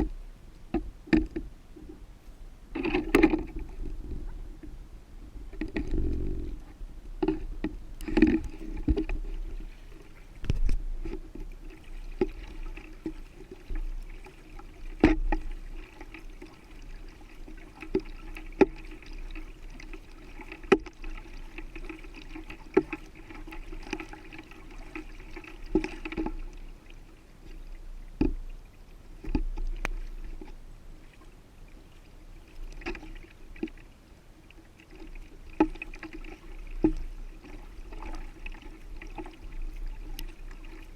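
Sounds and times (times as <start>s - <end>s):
paddle splashing in water: 2.7s - 40.9s.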